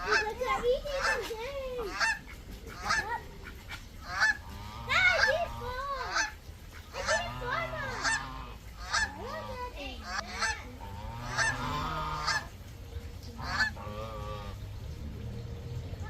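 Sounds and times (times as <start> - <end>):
geese honking: 0.0 - 14.9.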